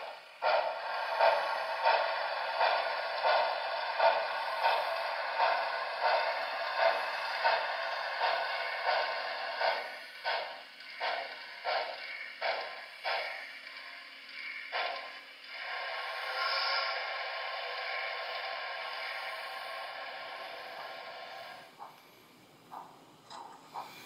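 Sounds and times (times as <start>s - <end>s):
tinny steam locomotive chuffs: 0.0s - 23.0s.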